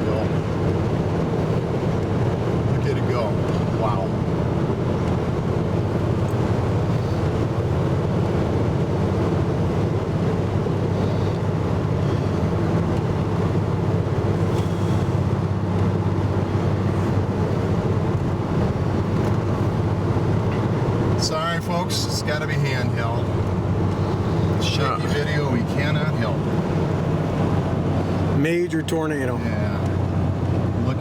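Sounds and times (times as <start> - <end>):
road noise: 0.0 - 31.0
vehicle engine rumble: 0.0 - 31.0.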